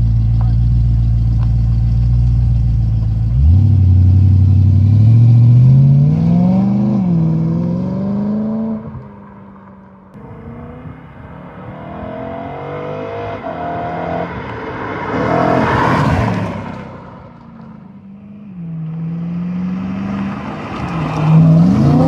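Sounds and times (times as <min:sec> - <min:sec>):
car engine revving: 0:00.0 - 0:09.3, 0:10.1 - 0:22.0.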